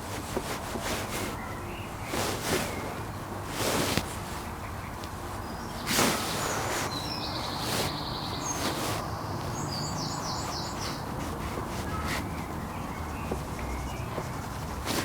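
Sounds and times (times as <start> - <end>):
low background noise: 0.0 - 15.0
birds chirping: 1.1 - 15.0
harsh bird calls: 1.4 - 15.0.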